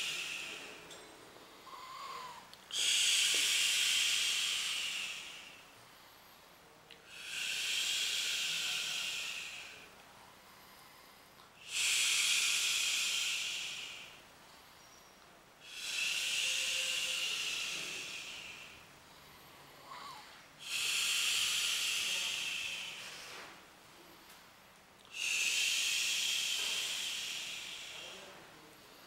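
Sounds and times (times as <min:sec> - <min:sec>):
hissing breath exhalations: 0:00.0 - 0:23.6, 0:25.0 - 0:29.0.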